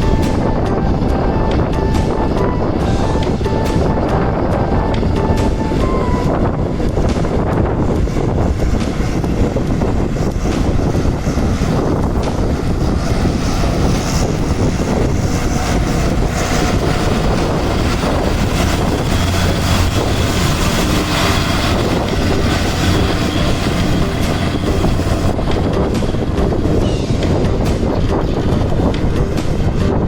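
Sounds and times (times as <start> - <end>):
vehicle engine and road noise: 0.0 - 30.0
wind buffeting microphone: 0.0 - 30.0.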